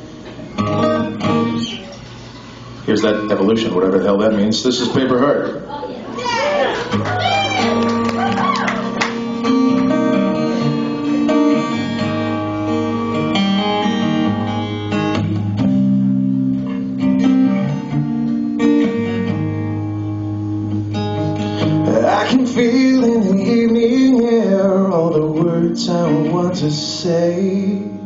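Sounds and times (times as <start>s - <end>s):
bass guitar line: 0.0s - 1.8s, 6.2s - 28.0s
acoustic guitar chords: 0.0s - 4.4s, 6.9s - 28.0s.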